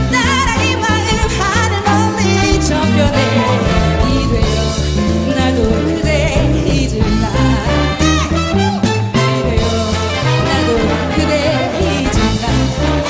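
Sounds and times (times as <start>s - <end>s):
pop ballad band music: 0.0s - 13.0s.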